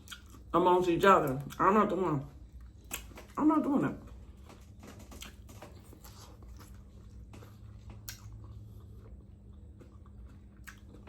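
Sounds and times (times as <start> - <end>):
chewing food: 0.0 - 0.5, 1.2 - 3.4, 4.0 - 11.0.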